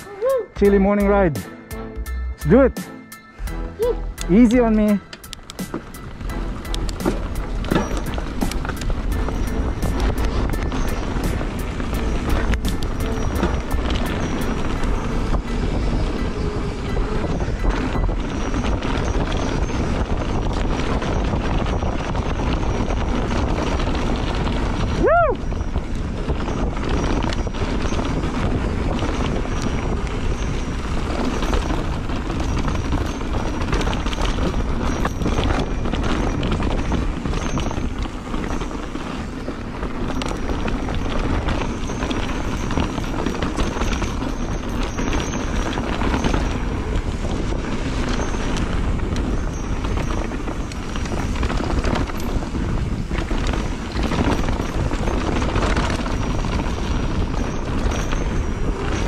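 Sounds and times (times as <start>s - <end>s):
bike rattling over bumps: 3.4s - 59.0s
wind noise on microphone: 3.4s - 59.0s
bike tyres crunching on dirt: 4.2s - 59.0s.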